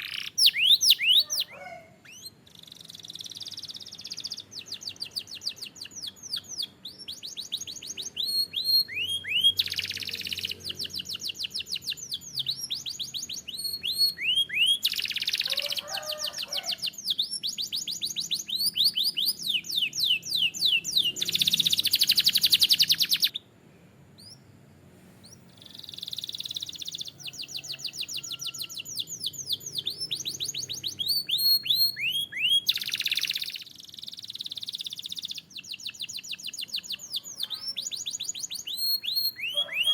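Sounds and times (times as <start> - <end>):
canary singing trills: 0.0 - 23.5, 24.2 - 24.6, 25.2 - 39.9.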